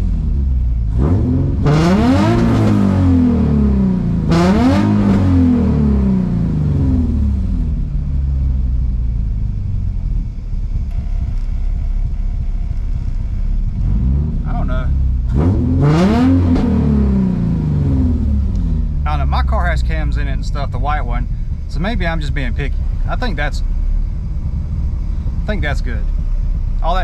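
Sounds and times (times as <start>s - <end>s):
car engine revving and idling: 0.0s - 27.0s.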